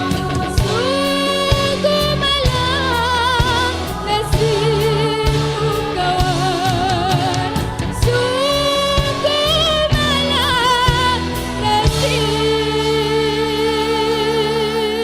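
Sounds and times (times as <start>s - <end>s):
steady drum beat: 0.0s - 13.0s
band accompaniment with bass: 0.0s - 15.0s
woman singing with vibrato: 0.0s - 15.0s.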